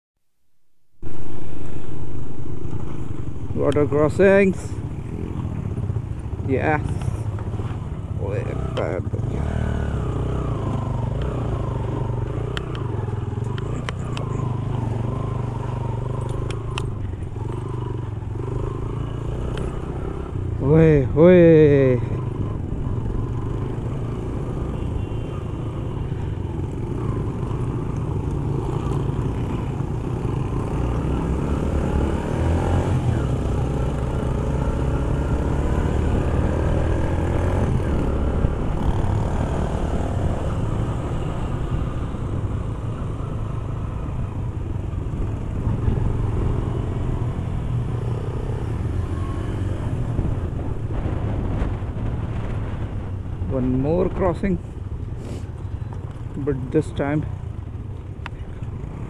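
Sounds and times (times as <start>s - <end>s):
motorcycle engine running: 1.0s - 59.0s
rumble of riding on gravel: 1.0s - 59.0s.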